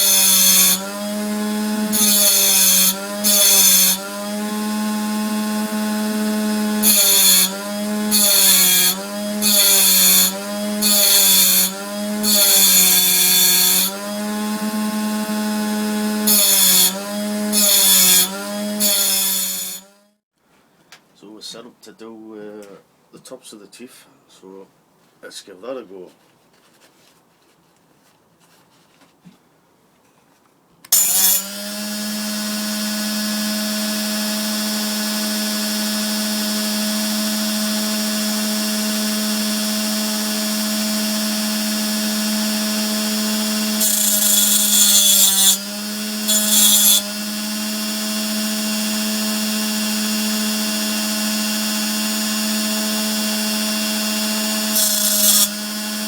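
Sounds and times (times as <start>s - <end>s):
disc grinding saw blade teeth: 0.0s - 19.9s, 30.9s - 56.0s
rotary tool high whine: 0.0s - 20.0s, 30.9s - 56.0s.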